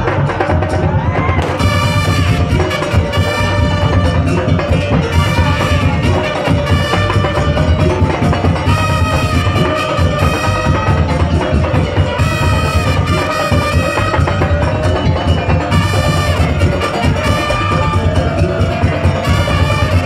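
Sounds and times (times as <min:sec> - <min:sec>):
drum and wood-block percussion: 0:00.0 - 0:20.0.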